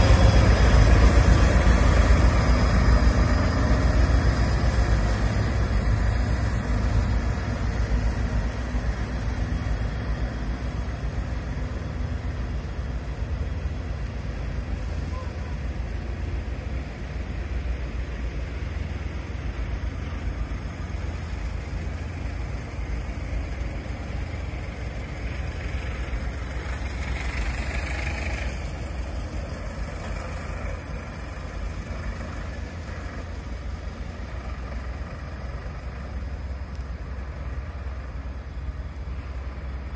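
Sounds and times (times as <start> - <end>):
truck passing: 0.0 - 39.9
vehicle engines idling: 0.0 - 39.9.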